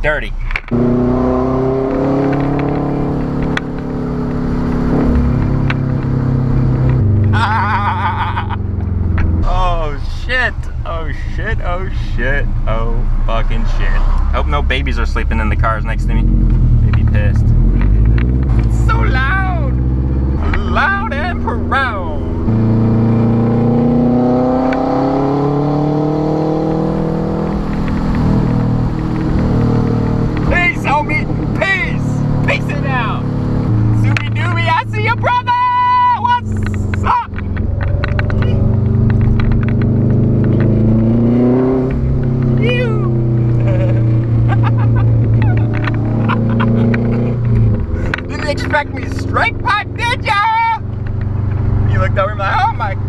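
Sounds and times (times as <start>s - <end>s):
car exhaust loud deep drone: 0.0s - 53.0s.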